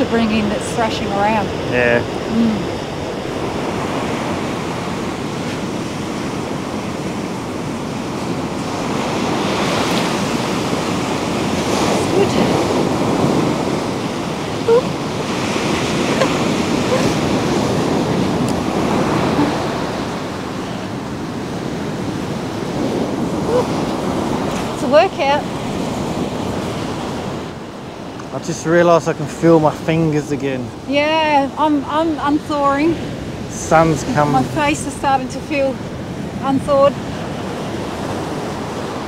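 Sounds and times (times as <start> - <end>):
wind buffeting microphone: 0.0 - 39.0
surf breaking on beach: 1.1 - 39.0.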